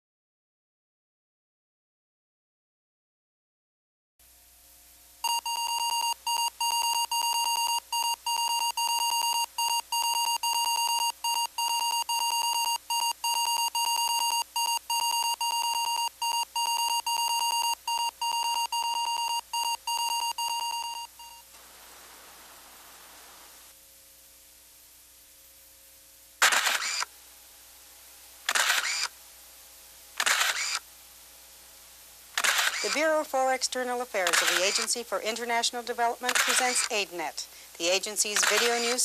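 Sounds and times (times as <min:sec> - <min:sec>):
faint low hum: 0:04.2 - 0:39.0
tape hiss: 0:04.2 - 0:39.0.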